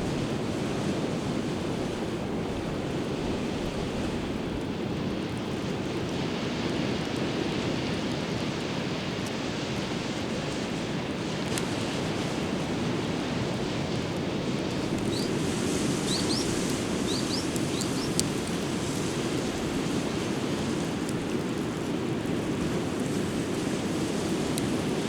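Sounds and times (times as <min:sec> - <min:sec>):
ocean surf: 0:00.0 - 0:05.0, 0:09.5 - 0:25.0
wind: 0:00.0 - 0:25.0.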